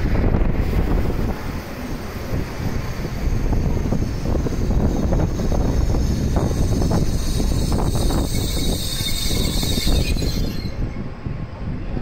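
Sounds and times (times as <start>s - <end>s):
train rumbling slowly past: 0.0s - 12.0s.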